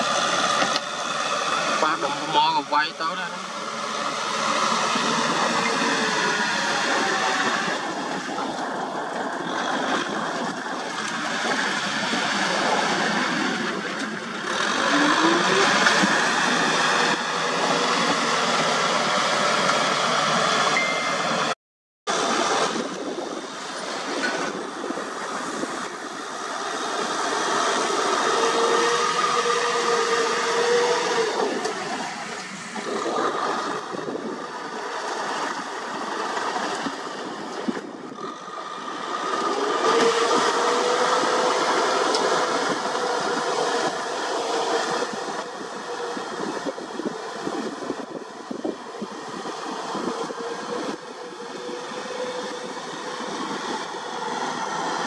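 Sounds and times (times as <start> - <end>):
rotary tiller churning mud: 0.0 - 55.0
tractor diesel engine under load: 0.0 - 55.0.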